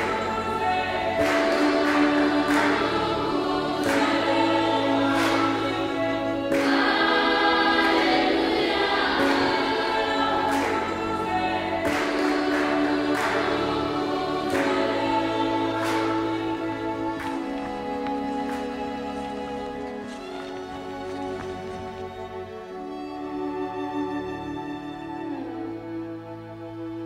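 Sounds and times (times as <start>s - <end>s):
choir singing held chords: 0.0s - 26.9s.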